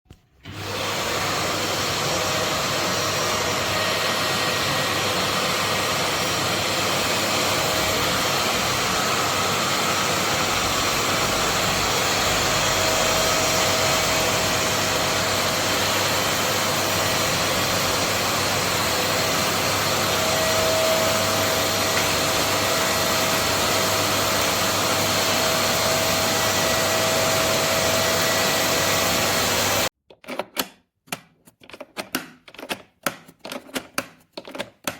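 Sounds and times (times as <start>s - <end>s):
vacuum cleaner motor whooshing: 0.4s - 29.9s.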